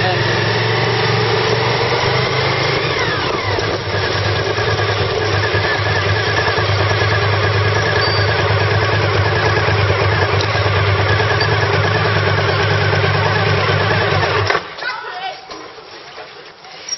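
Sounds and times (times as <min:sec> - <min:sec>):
car engine and road noise: 0:00.0 - 0:14.8.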